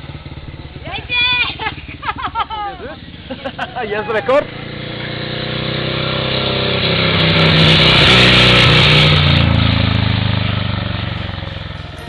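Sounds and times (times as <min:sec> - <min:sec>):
motorcycle engine passing by: 0:00.0 - 0:12.0.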